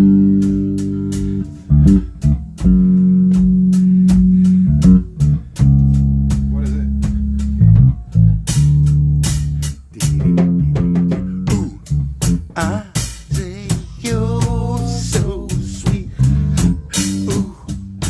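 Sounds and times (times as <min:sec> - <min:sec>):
drum kit kick and cymbal: 0:00.0 - 0:18.0
electric bass funk line: 0:00.0 - 0:18.0.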